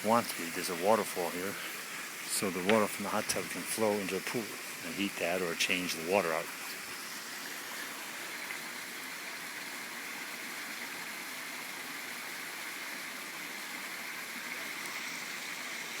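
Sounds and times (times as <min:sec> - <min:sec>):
water spilling over small waterfall: 0:00.0 - 0:16.0.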